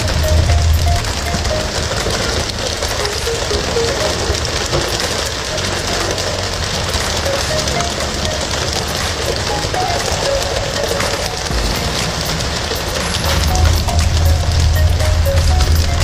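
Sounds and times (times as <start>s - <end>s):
boat engine hum: 0.0s - 16.0s
faint music: 0.0s - 16.0s
rushing water: 0.0s - 16.0s.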